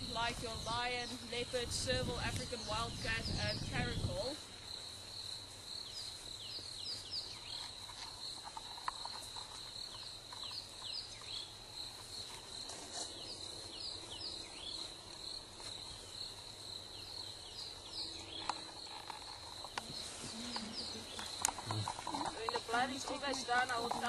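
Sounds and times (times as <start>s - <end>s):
birds chirping: 0.0s - 24.0s
insect trill: 0.0s - 24.0s.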